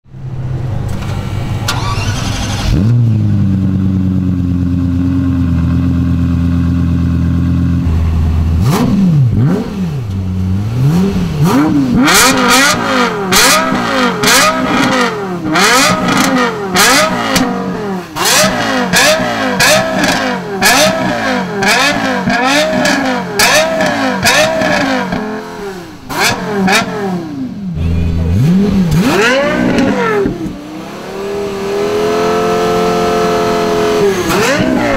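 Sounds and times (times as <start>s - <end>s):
car engine revving: 0.2s - 34.9s.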